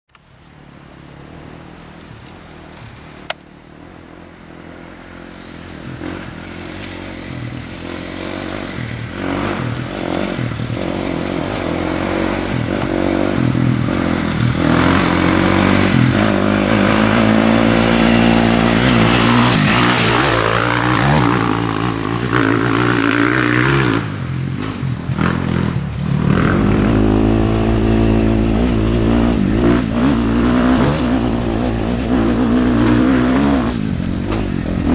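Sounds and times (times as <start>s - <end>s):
vehicle engine revving: 0.4s - 34.9s.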